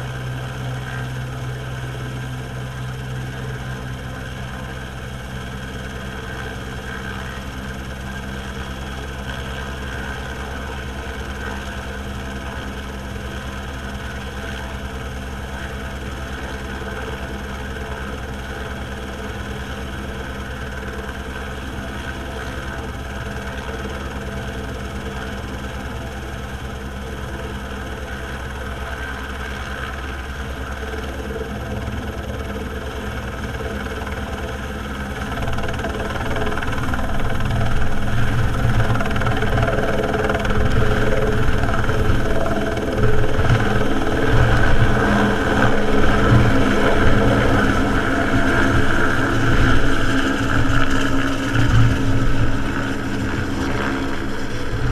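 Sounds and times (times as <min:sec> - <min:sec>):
helicopter turbine and rotor: 0:00.0 - 0:54.9.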